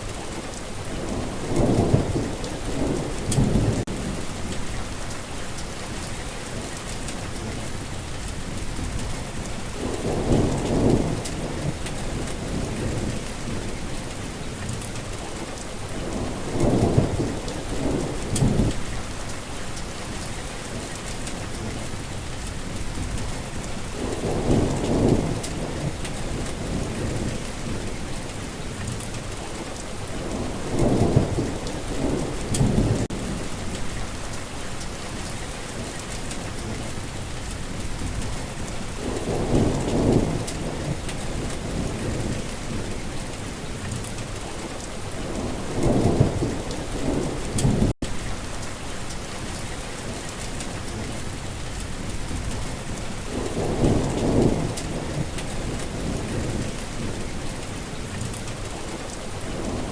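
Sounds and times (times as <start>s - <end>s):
heavy rain falling: 0.0s - 59.9s
thunder rumbling: 0.4s - 7.6s, 8.4s - 19.3s, 20.0s - 59.9s.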